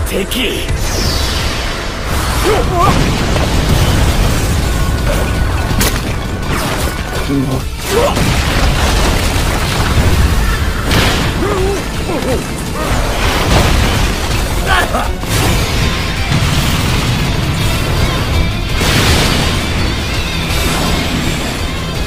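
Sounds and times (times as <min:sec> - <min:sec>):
dramatic music score: 0:00.0 - 0:22.0
booming rumble of explosions: 0:00.6 - 0:22.0.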